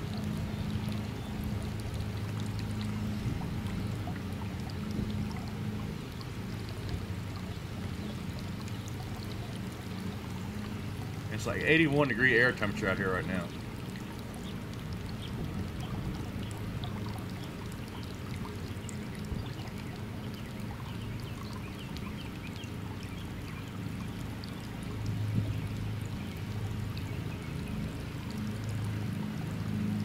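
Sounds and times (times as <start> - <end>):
pump hum: 0.0 - 30.0
water pouring into pool: 0.0 - 30.0.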